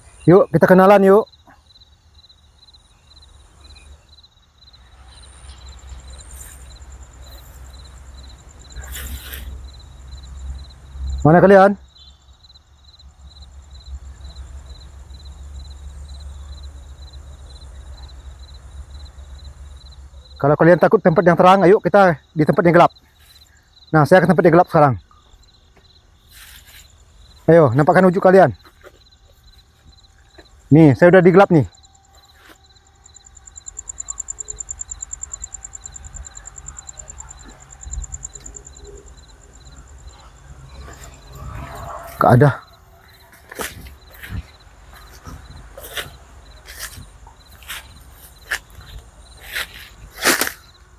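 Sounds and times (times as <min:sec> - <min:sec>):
crickets chirping: 0:00.0 - 0:50.9
insect rapid pulsing trill: 0:00.0 - 0:50.9.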